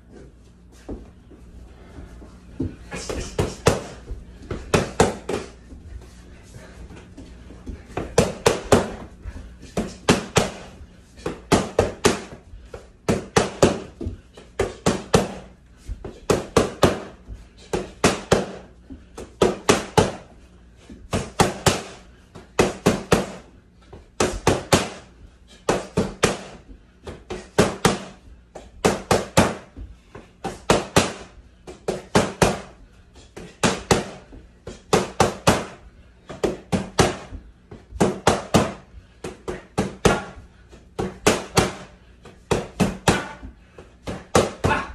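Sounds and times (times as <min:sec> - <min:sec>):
boxing gloves smacking mitts: 0:01.9 - 0:44.9.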